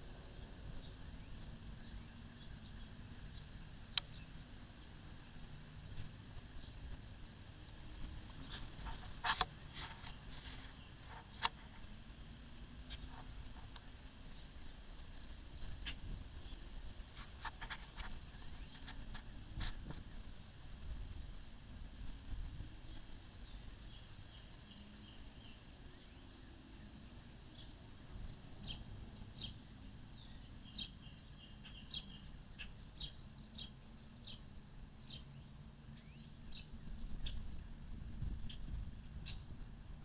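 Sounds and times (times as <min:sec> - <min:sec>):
birds chirping: 0:00.0 - 0:19.3, 0:22.8 - 0:40.0.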